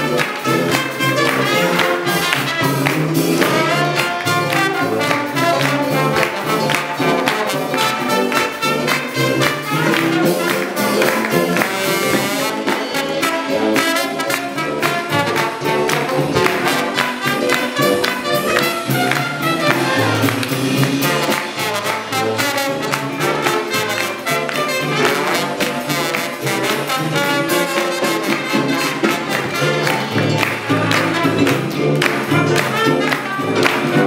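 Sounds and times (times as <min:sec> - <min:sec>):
drums: 0:00.0 - 0:34.0
jazz brass band playing swing: 0:00.0 - 0:34.0
trumpet: 0:00.0 - 0:34.0.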